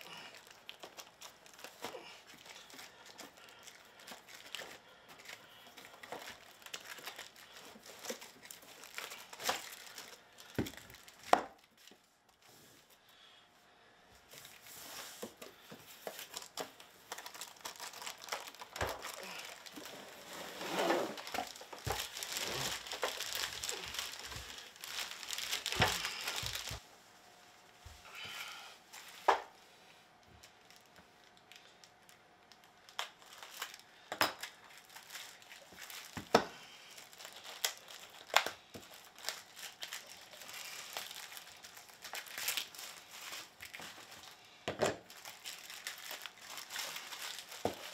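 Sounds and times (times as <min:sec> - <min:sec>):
plastic bags crinkling: 0:00.0 - 0:12.4, 0:14.3 - 0:26.8, 0:30.2 - 0:47.9.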